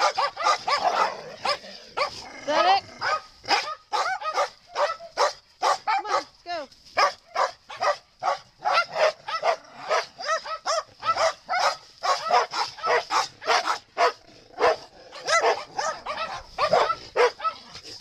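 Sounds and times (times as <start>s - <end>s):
dogs barking and yipping: 0.0s - 18.0s.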